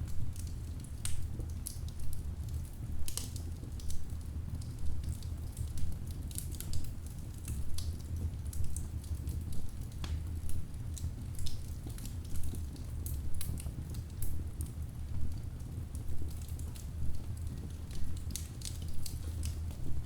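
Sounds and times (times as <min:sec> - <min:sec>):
low rumble of burning logs: 0:00.0 - 0:20.0
wood fire crackling: 0:00.0 - 0:20.0.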